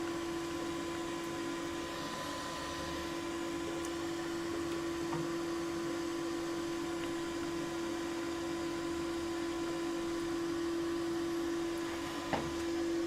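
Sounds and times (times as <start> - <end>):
toilet cistern water hissing: 0.0 - 13.0.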